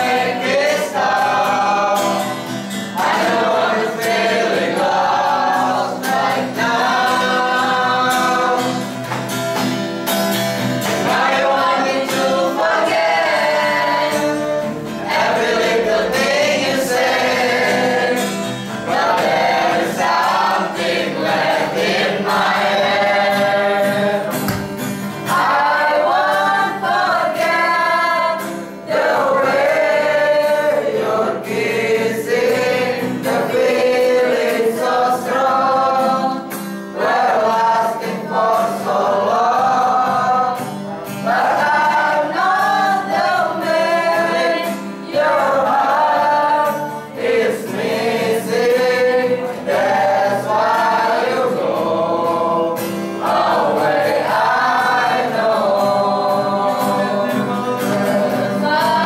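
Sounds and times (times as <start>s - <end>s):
mixed choir singing: 0.0s - 9.1s, 10.6s - 59.0s.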